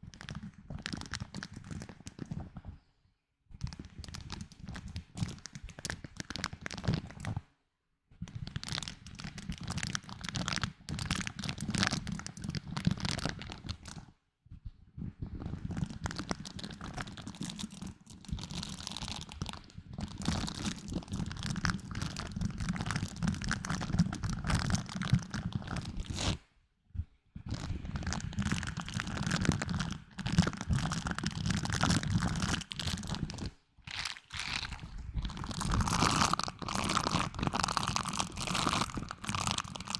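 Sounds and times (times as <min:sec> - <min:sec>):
crinkling and crackling object: 0:00.0 - 0:07.5, 0:08.2 - 0:39.9.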